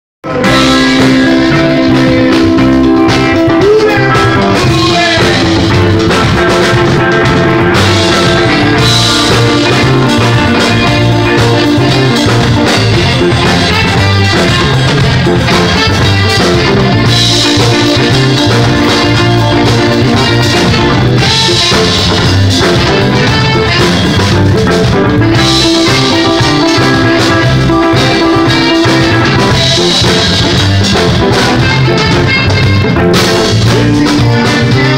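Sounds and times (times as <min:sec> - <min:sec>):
drum kit: 0:00.2 - 0:34.9
electric guitar: 0:00.2 - 0:34.9
saxophone: 0:00.3 - 0:34.9.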